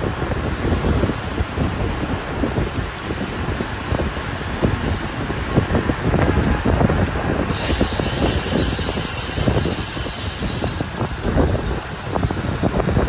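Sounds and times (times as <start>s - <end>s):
road and traffic noise: 0.0s - 13.0s
wind buffeting microphone: 0.0s - 13.0s.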